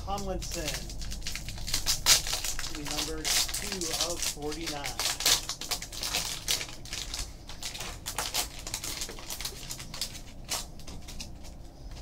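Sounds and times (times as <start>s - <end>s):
foil wrapper crinkling: 0.2s - 12.0s.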